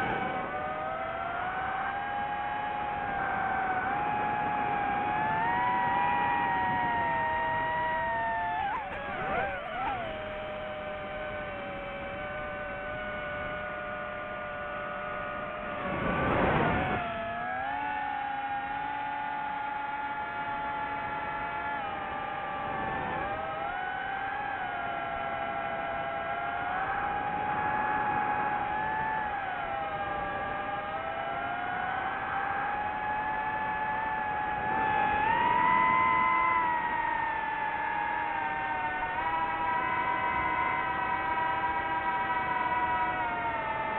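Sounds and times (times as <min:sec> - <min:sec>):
quadcopter propellers whining: 0:00.0 - 0:43.9.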